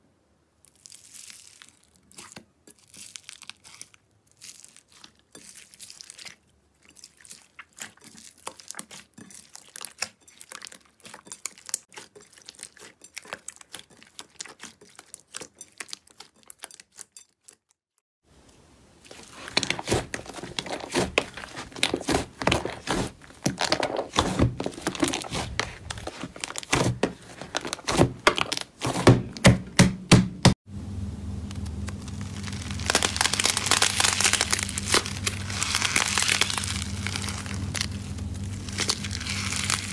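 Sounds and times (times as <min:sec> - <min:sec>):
slime crackling and popping: 0:00.7 - 0:17.2, 0:19.0 - 0:29.2, 0:31.4 - 0:39.9.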